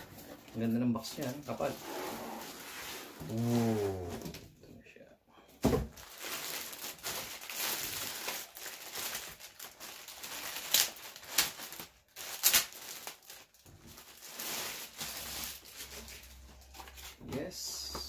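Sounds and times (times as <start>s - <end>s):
packaging crinkling and rustling: 0.0s - 4.3s, 5.7s - 17.9s.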